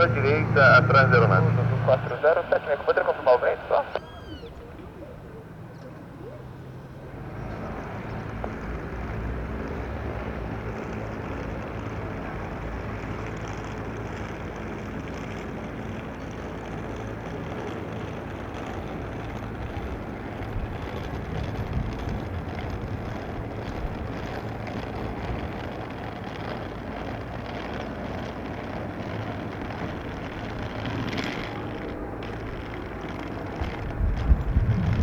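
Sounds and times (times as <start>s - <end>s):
helicopter engine running: 0.0s - 35.0s.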